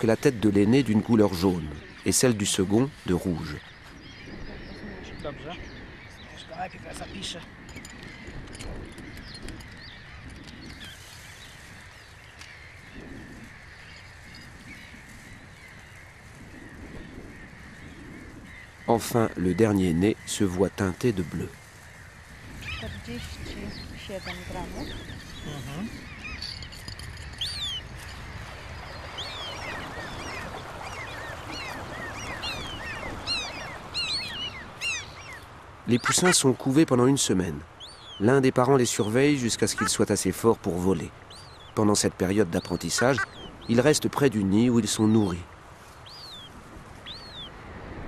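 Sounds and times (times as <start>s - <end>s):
gulls calling: 0.0s - 47.6s.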